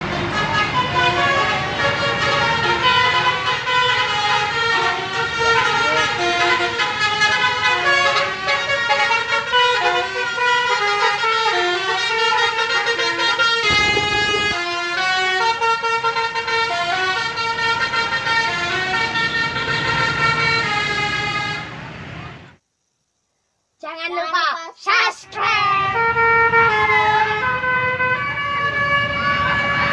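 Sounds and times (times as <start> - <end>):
bus horn playing a tune: 0.0 - 21.8, 25.4 - 29.9.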